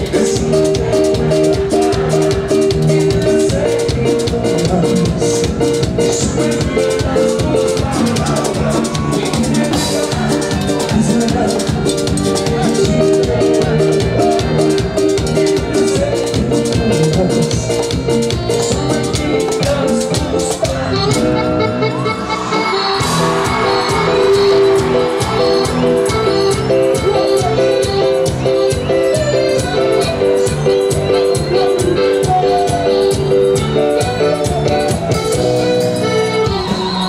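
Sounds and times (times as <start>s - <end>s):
drum kit beat: 0.0s - 37.0s
live band playing dance music: 0.0s - 37.0s.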